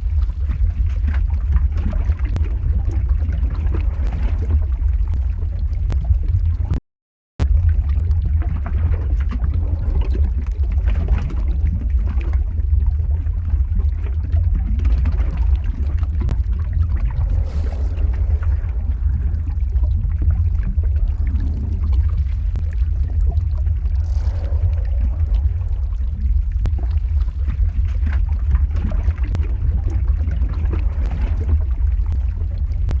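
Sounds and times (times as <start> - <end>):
deep lava rumble: 0.0 - 6.8, 7.4 - 33.0
lava crackling: 0.0 - 6.8, 7.4 - 33.0.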